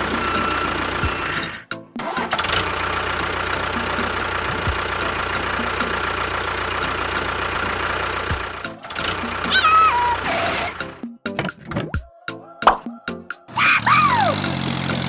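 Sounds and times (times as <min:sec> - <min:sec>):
engine humming: 0:00.0 - 0:11.0, 0:13.3 - 0:15.0.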